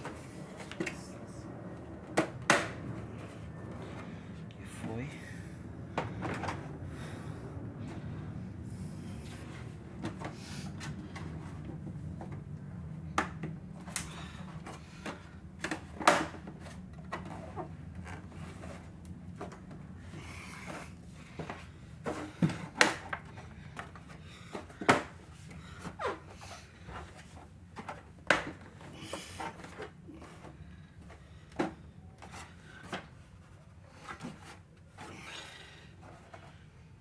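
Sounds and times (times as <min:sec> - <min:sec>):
steady low hum: 0:00.0 - 0:33.7.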